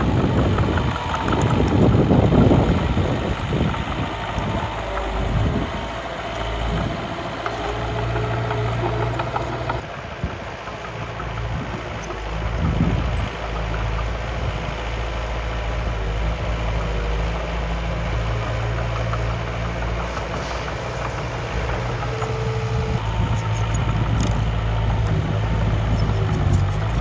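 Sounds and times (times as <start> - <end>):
toy construction machine humming: 0.0 - 27.0.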